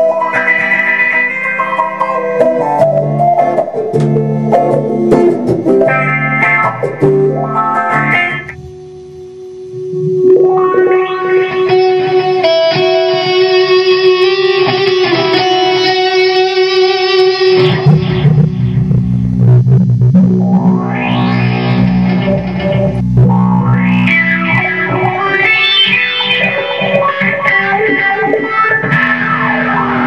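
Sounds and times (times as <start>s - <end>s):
electric guitar note and chords: 0.0s - 30.0s.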